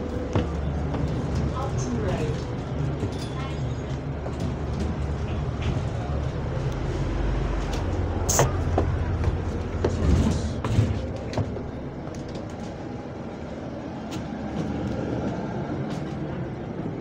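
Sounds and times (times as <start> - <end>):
bus engine rumble from inside: 0.0 - 17.0.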